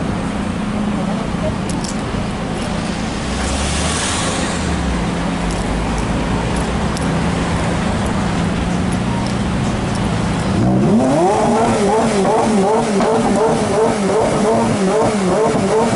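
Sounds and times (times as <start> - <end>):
car engine at low revs: 0.0 - 15.9
street traffic noise: 0.0 - 15.9.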